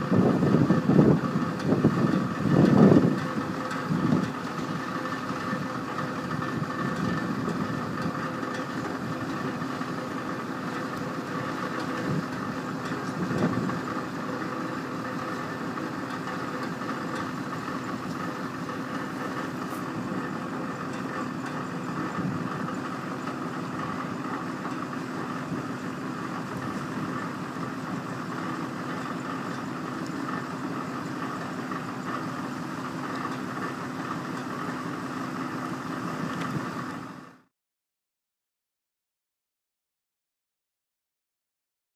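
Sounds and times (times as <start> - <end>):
heavy truck engine idling: 0.0 - 37.5.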